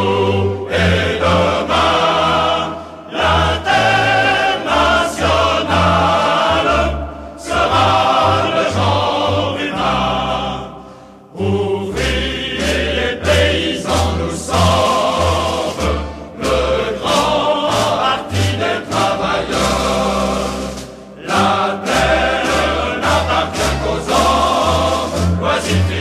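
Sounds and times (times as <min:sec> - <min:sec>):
choir singing sustained phrases: 0:00.0 - 0:26.0.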